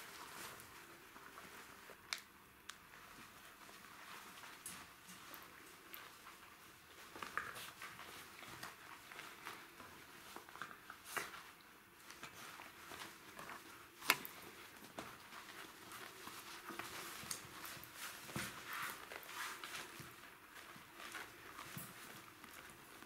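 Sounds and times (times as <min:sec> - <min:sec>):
puppies' paws pattering: 0:00.0 - 0:23.0.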